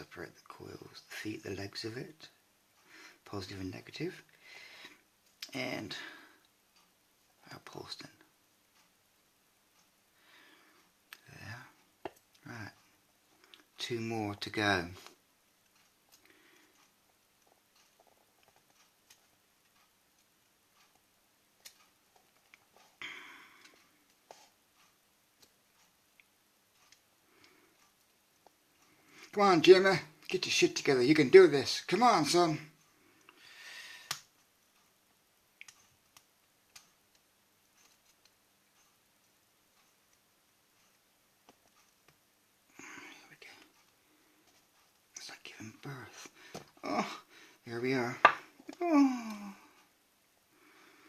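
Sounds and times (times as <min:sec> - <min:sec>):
faint clicks of small parts: 0:09.7 - 0:51.0.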